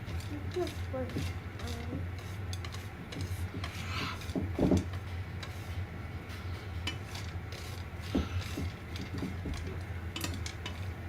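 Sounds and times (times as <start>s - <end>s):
steady low hum: 0.0s - 11.0s
utensil scraping in a frying pan: 0.0s - 11.0s.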